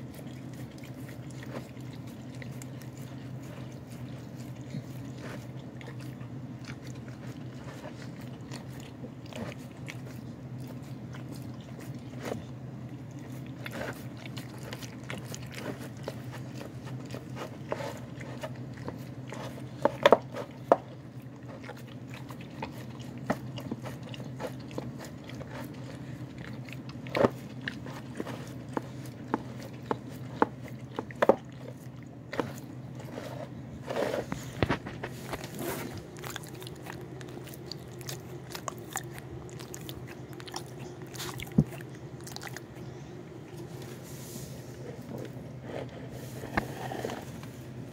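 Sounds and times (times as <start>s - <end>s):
dog chewing and crunching food: 0.0s - 47.9s
steady low hum: 0.0s - 47.9s.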